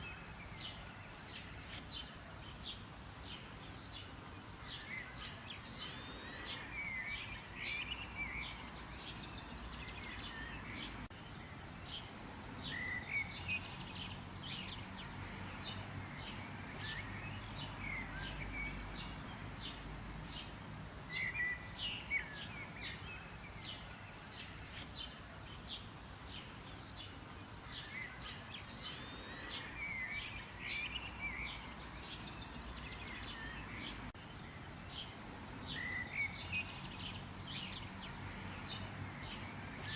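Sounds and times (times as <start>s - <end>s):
faint background hiss: 0.0s - 39.9s
small birds chirping: 0.0s - 39.9s.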